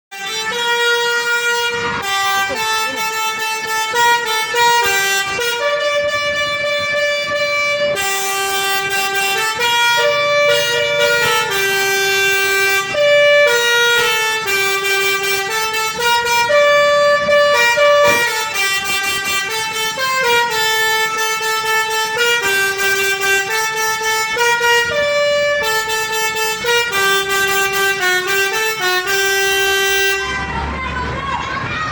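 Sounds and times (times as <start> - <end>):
musical air horn playing a tune: 0.1 - 30.8.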